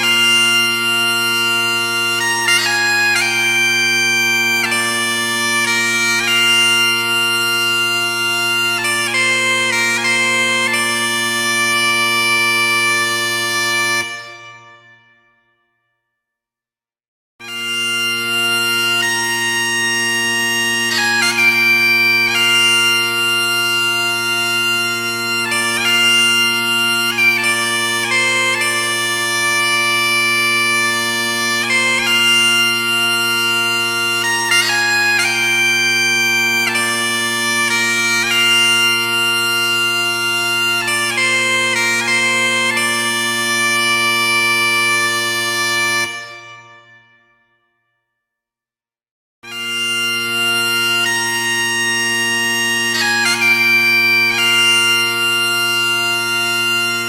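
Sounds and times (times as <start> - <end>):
bagpipes playing a tune: 0.0 - 15.2, 17.4 - 47.4, 49.4 - 57.0.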